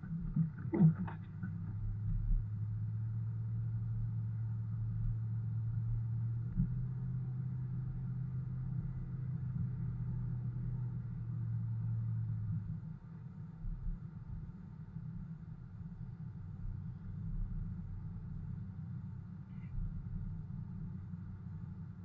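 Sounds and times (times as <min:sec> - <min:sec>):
car engine and road hum: 0:00.0 - 0:22.0.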